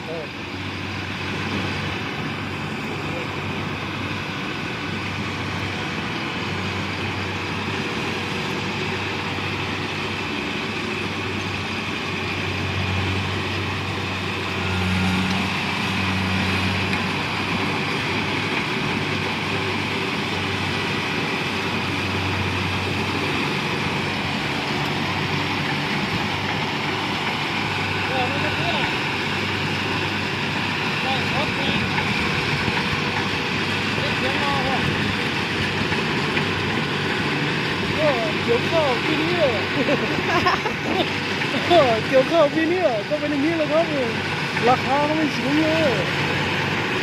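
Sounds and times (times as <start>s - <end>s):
combine harvester engine hum: 0.0s - 47.0s
machinery whirring: 0.0s - 47.0s.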